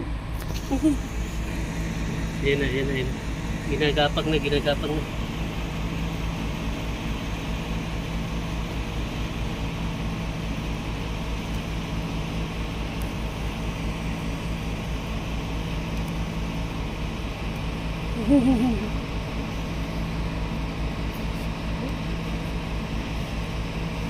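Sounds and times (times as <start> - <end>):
machine hum with low tone: 0.0 - 24.0.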